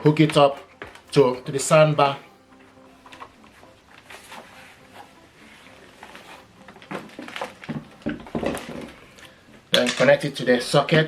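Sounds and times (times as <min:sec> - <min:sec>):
cable handling rustling and clicks: 0:00.0 - 0:10.8.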